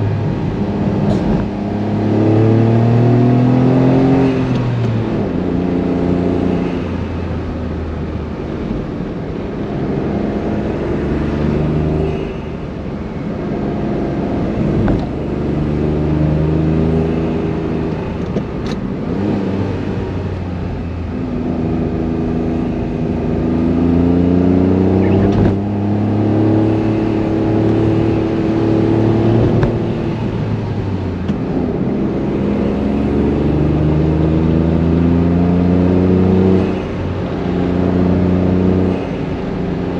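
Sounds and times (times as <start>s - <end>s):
car engine accelerating through gears: 0.0s - 12.3s, 13.1s - 39.9s.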